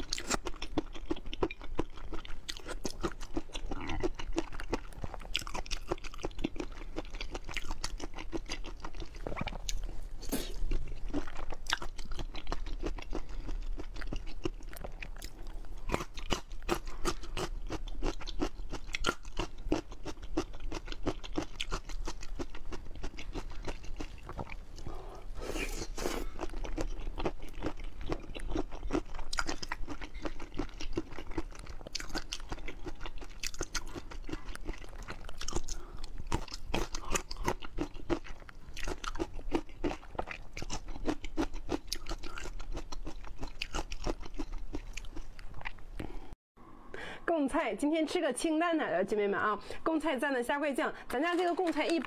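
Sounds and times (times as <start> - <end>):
chewing crunchy food: 0.0 - 46.3.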